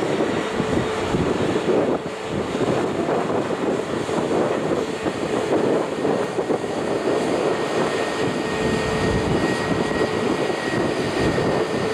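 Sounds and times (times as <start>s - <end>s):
faint high engine whine: 0.0s - 11.9s
jet engines rushing: 0.0s - 11.9s.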